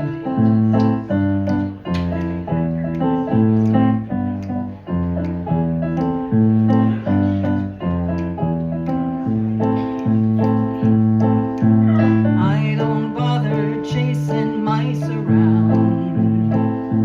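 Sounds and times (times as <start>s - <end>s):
keyboard playing bass and chords: 0.0s - 17.0s.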